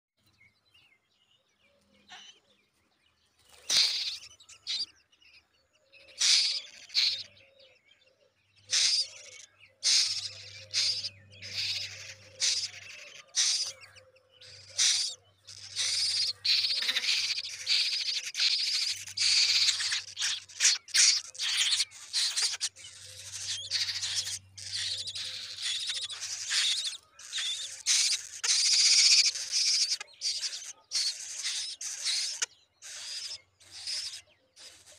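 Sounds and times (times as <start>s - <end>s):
crow nestlings begging calls: 3.7s - 5.4s, 6.0s - 7.7s, 8.6s - 34.9s.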